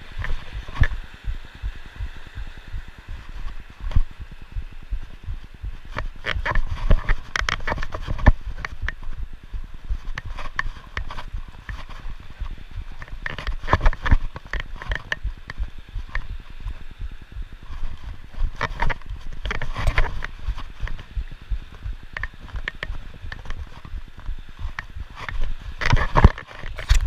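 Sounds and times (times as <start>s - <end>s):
low rumble: 0.0s - 26.2s.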